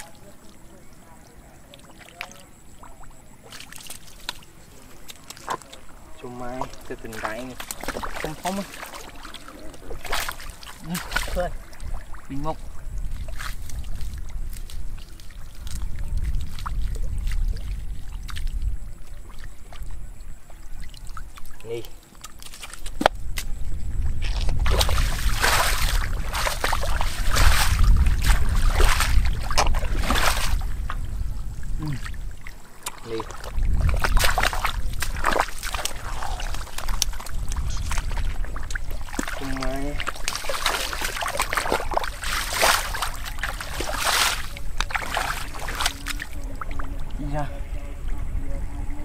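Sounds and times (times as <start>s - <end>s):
legs wading through muddy water: 0.0s - 47.8s
bare feet sloshing through mud: 1.6s - 47.0s.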